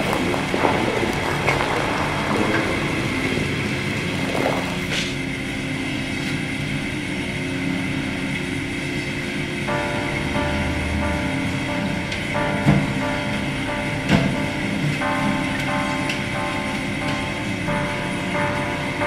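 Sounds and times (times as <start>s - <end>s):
machinery drone: 0.0s - 19.0s.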